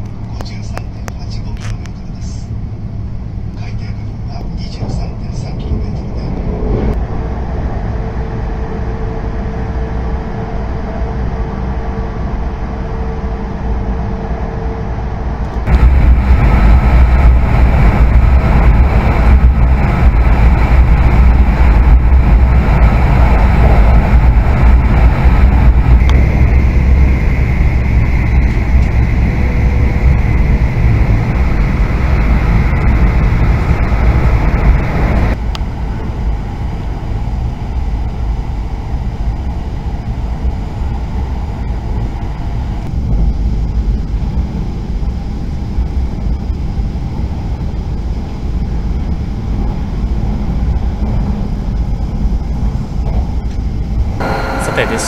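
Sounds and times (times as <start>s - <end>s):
train cabin rumble: 0.0s - 55.0s
rush of air: 5.0s - 12.7s, 15.0s - 53.0s.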